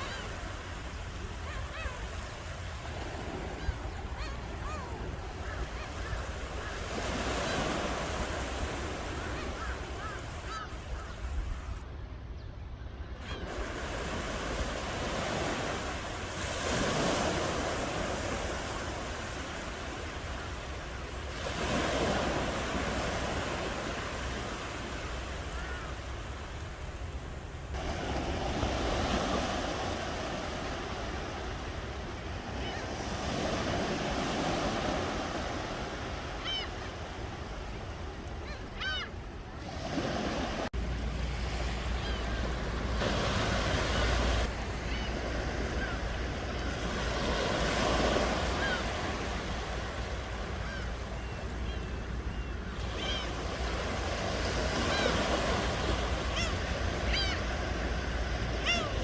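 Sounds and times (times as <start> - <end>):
ocean waves breaking: 0.0 - 11.9, 13.2 - 59.0.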